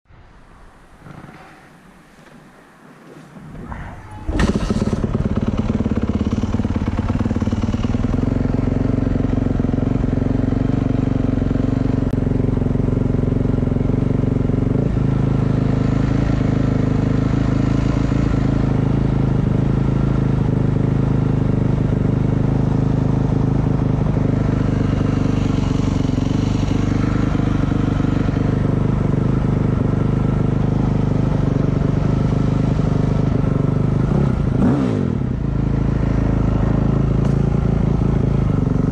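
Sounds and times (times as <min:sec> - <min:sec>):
motorcycle engine running: 0:03.6 - 0:38.9.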